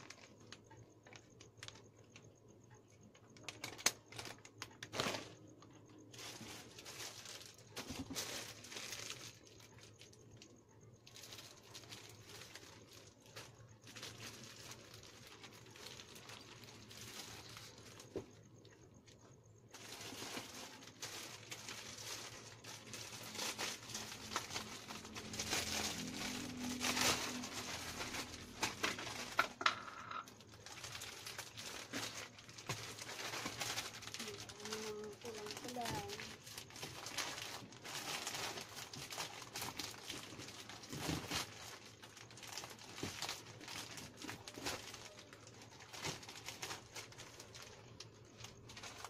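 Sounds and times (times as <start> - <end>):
plastic packets crinkling: 0.0 - 49.0.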